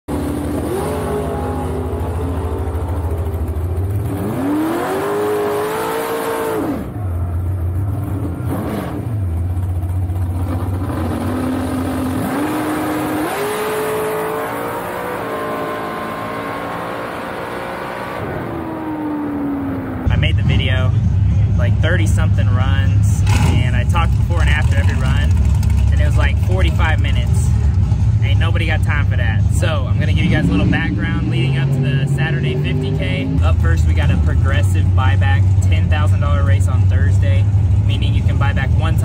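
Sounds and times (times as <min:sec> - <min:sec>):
dragster engine idling and revving: 0:00.1 - 0:39.0.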